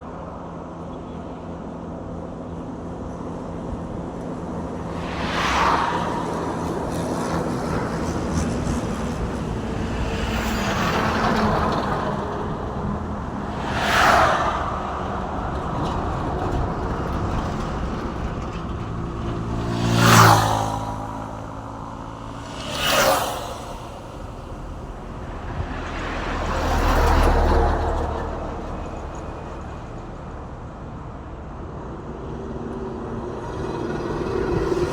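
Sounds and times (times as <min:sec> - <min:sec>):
road rumble: 0:00.0 - 0:34.9
trucks passing by: 0:00.0 - 0:34.9.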